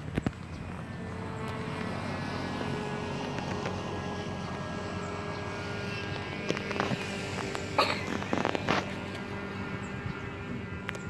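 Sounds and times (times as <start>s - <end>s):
model airplane motor droning: 0.0s - 11.0s.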